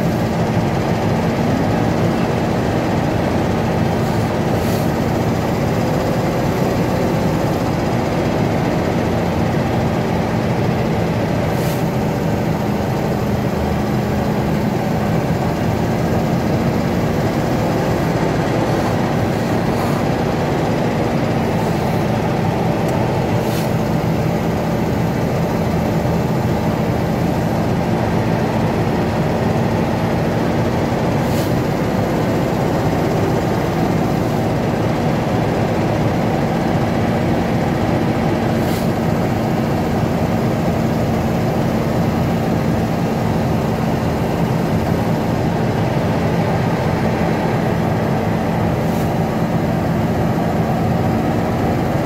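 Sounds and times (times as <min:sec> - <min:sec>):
diesel truck engine drone: 0:00.0 - 0:52.0
road noise: 0:00.0 - 0:52.0.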